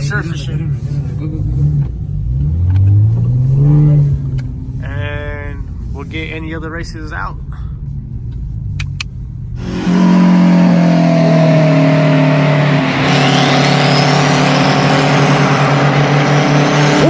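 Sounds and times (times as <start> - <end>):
car engine running steady: 0.0 - 17.0.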